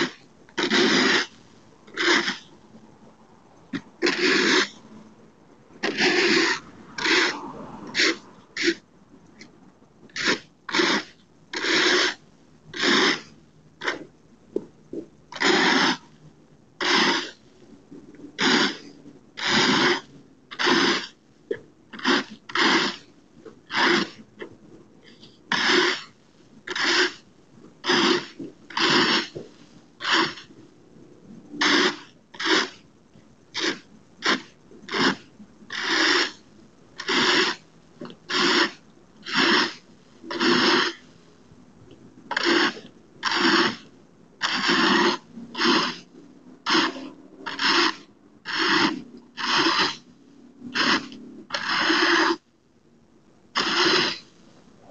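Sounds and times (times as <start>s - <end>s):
rake scraping asphalt: 0.0s - 2.6s, 3.6s - 5.1s, 5.7s - 16.2s, 16.8s - 30.7s, 31.3s - 32.9s, 33.5s - 41.3s, 42.3s - 52.4s, 53.5s - 54.9s.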